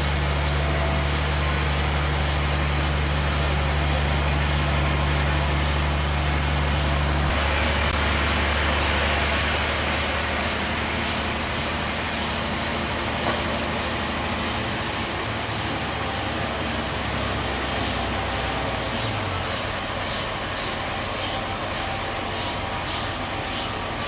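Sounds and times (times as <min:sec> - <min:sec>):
bandsaw sawmill humming: 0:00.0 - 0:24.0
hissy sawing noise: 0:00.0 - 0:24.0.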